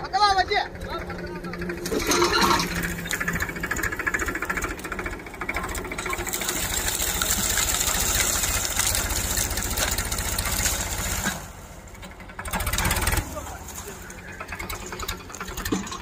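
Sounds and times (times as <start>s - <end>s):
tractor diesel engine running: 0.0s - 16.0s
blade scraping through brush: 1.8s - 16.0s.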